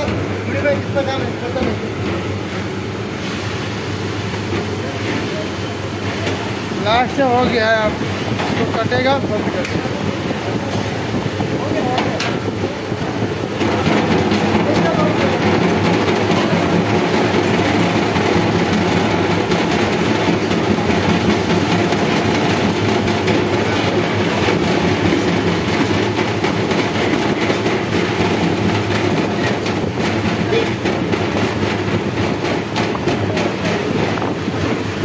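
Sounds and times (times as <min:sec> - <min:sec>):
exhaust hood fan drone: 0:00.0 - 0:35.0
gas burner roaring: 0:00.0 - 0:35.0.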